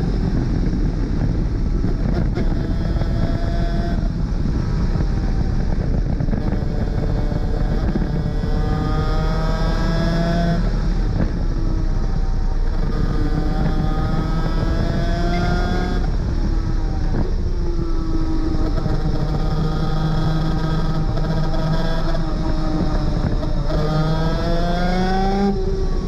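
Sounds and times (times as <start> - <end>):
kart engine at full throttle: 0.0 - 26.0
rush of wind: 0.0 - 26.0.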